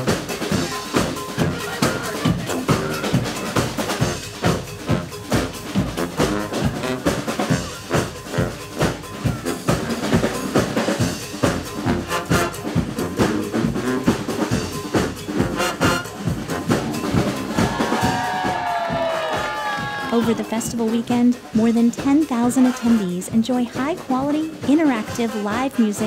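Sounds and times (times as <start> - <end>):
brass band horns playing: 0.0 - 20.6, 24.8 - 25.9
snare and bass drum beat: 0.0 - 26.0.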